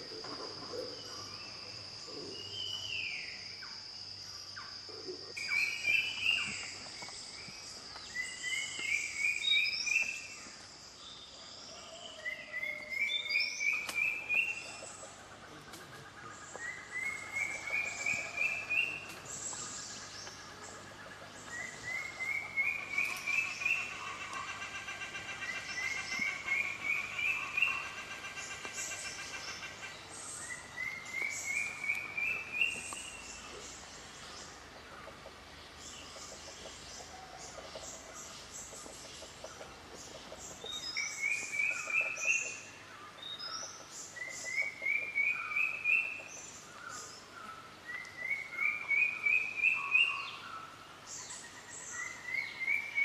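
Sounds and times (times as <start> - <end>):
soft bird calls: 0.0 - 53.0.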